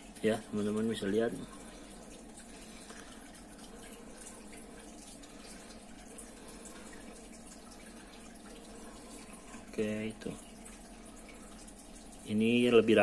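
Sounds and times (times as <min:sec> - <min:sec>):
room noise hiss and hum: 0:00.0 - 0:13.0.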